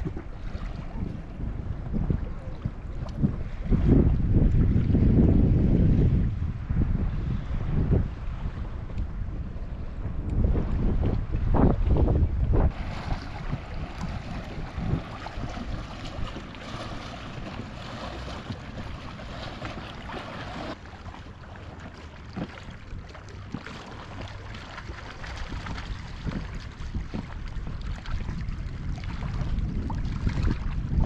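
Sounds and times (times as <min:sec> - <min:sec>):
waves lapping against boat: 0:00.0 - 0:31.0
wind buffeting microphone: 0:00.0 - 0:31.0.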